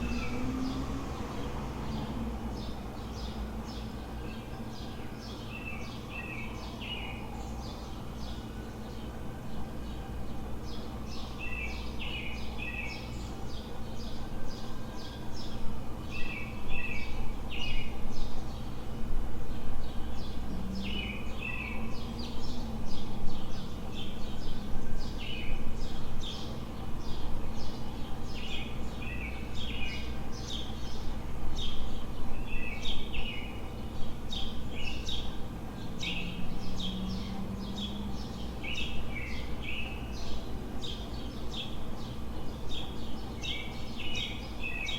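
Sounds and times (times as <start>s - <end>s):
low city hum: 0.0s - 44.9s
small birds chirping: 0.0s - 44.9s.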